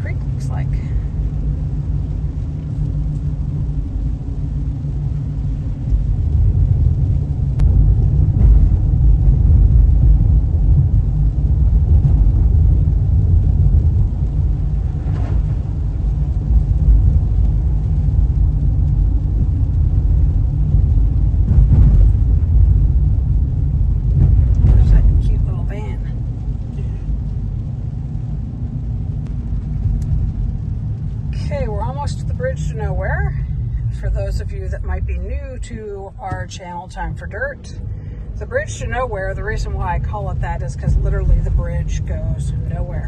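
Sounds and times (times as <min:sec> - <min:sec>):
car cabin road and engine noise: 0:00.0 - 0:43.0.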